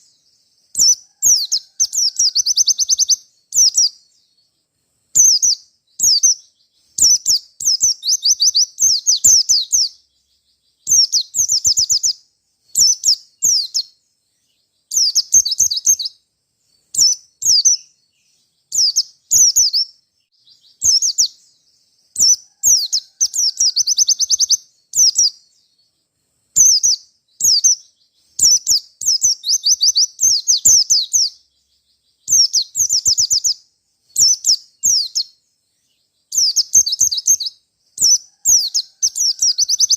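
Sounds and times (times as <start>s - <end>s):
bird singing fast trills: 0.0s - 39.9s.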